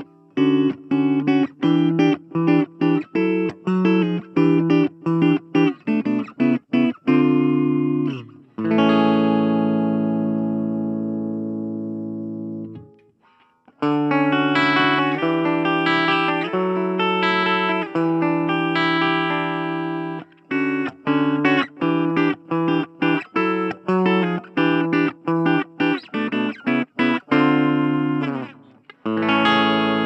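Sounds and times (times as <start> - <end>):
clean electric guitar chords: 0.0 - 13.1, 13.8 - 30.0.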